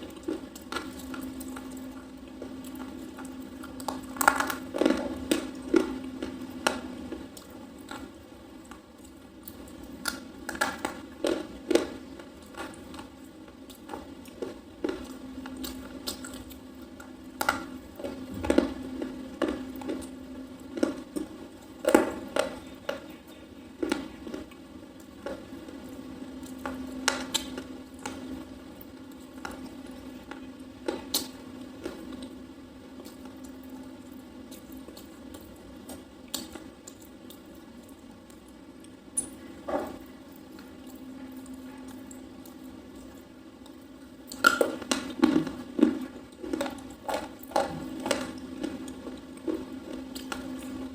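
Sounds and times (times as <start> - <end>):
biting and chewing crunches: 0.0 - 50.9.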